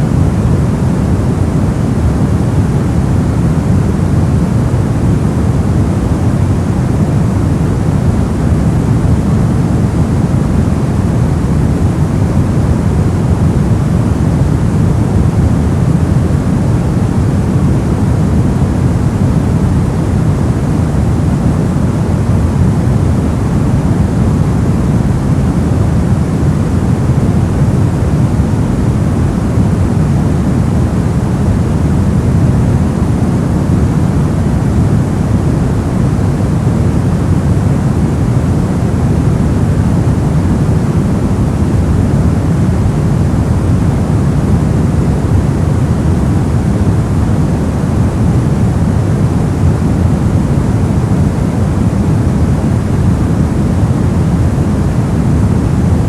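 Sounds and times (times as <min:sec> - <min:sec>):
deep white noise rush: 0:00.0 - 0:56.0.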